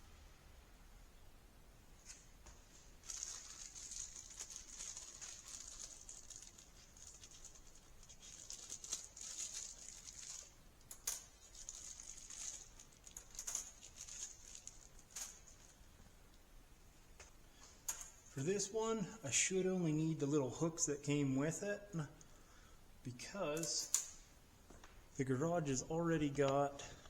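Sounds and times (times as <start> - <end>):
faint rustling and handling: 1.9 - 27.0.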